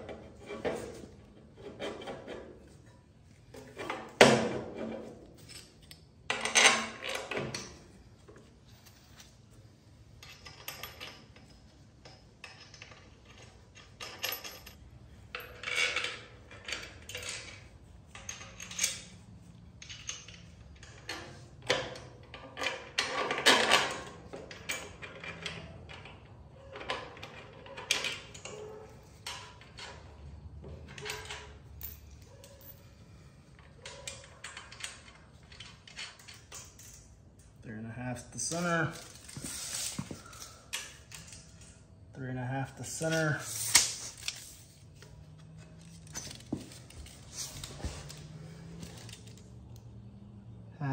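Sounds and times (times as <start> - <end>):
metal tools clinking and clanking: 1.8 - 9.3, 10.1 - 49.6.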